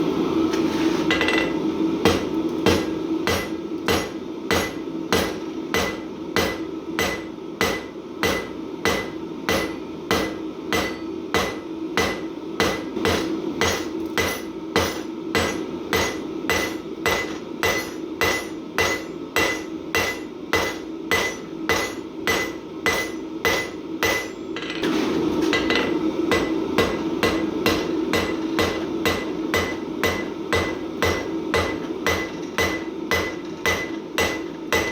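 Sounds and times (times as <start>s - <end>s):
steady low hum: 0.0s - 34.9s
hammer striking steel on anvil: 1.1s - 34.9s.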